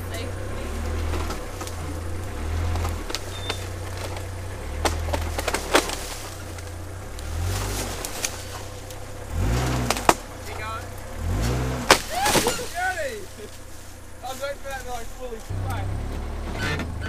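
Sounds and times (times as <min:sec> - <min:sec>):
car engine revving: 0:00.0 - 0:17.0
sharp cracks: 0:00.8 - 0:15.8.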